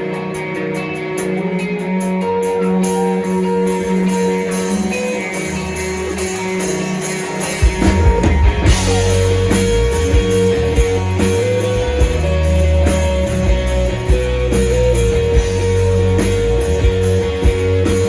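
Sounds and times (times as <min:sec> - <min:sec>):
bass and drums: 0:00.0 - 0:18.0
held electric guitar notes: 0:00.0 - 0:18.0.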